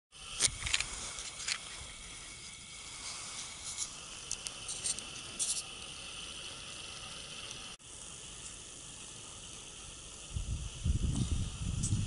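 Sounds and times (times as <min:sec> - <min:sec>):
steam engine hissing: 0:00.1 - 0:12.0
sharp crackles and pops: 0:00.2 - 0:10.3.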